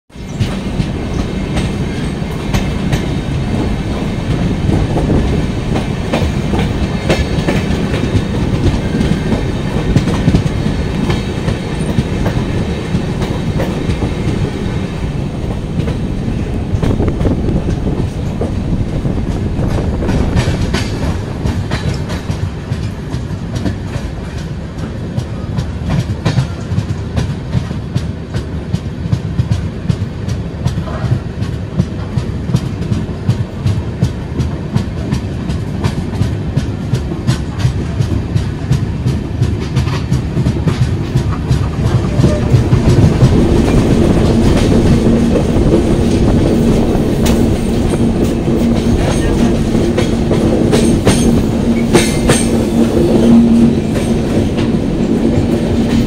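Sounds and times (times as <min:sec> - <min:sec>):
train wheels rumbling on rails: 0:00.1 - 0:56.0
wheels clacking over rail joints: 0:00.1 - 0:56.0.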